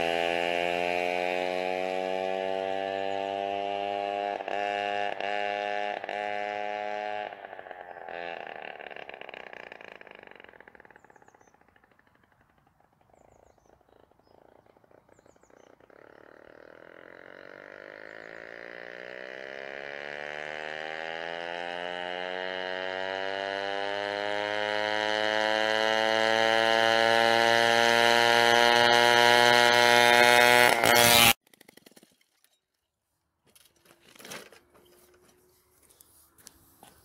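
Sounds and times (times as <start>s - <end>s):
moped engine buzzing: 0.0s - 31.8s.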